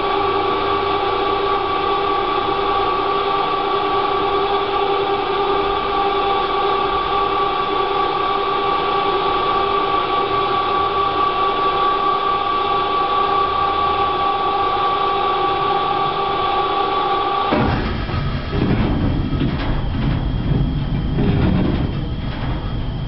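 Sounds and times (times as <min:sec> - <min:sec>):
paddle mixer humming: 0:00.0 - 0:23.0.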